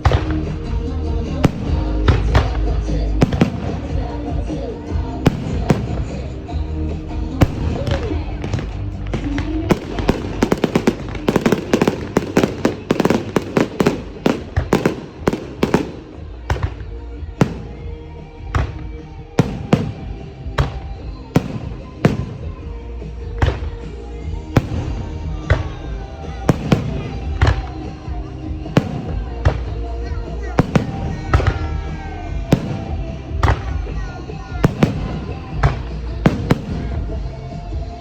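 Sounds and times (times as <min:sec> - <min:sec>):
fireworks bursting: 0:00.0 - 0:38.0
music playing: 0:00.0 - 0:38.0.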